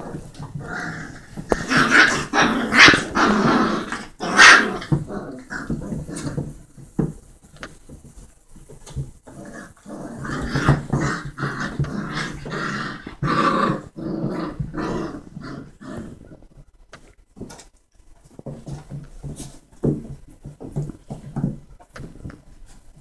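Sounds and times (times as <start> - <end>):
puppies play-growling: 0.0 - 23.0.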